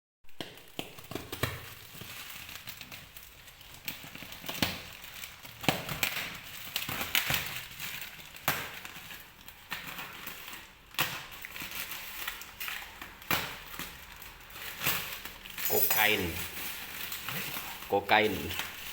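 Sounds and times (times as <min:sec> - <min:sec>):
plastic and cardboard crinkling: 0:00.3 - 0:18.9.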